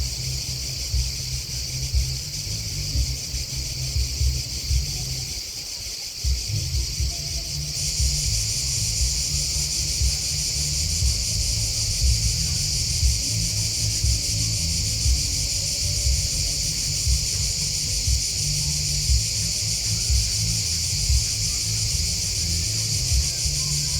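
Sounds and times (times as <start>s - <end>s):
uneven low rumble: 0.0s - 5.4s, 6.3s - 23.9s
field insects chirping: 0.0s - 23.9s.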